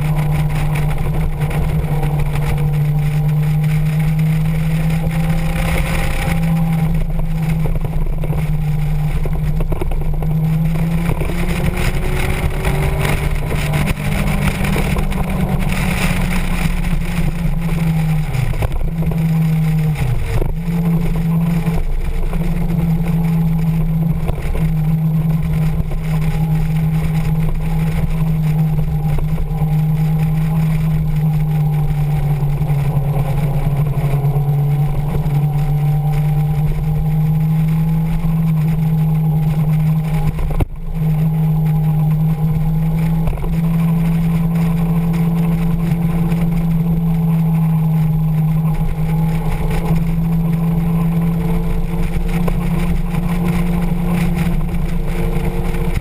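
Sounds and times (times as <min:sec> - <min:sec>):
motorcycle engine running: 0:00.0 - 0:56.0
wind rumble on microphone: 0:00.0 - 0:56.0.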